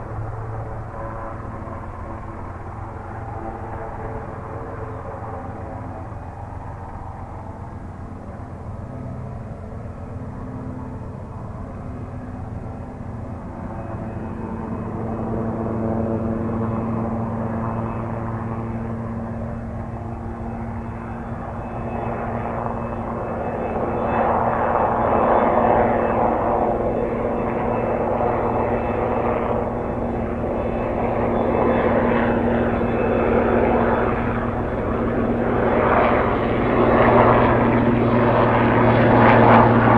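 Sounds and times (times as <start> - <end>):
helicopter rotor and engines: 0.0 - 39.9.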